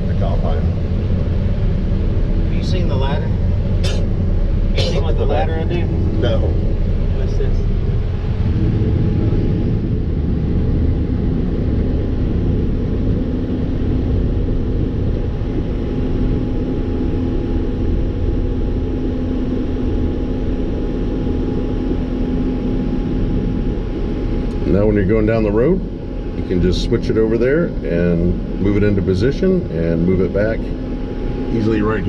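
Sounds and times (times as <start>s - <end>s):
combine harvester rumbling: 0.0s - 32.0s
faint steady hum: 0.0s - 32.0s.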